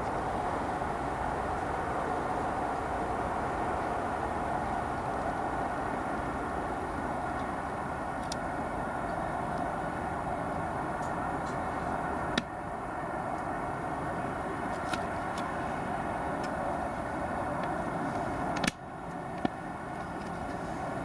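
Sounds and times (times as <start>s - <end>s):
outdoor ambient drone and hiss: 0.0s - 21.0s.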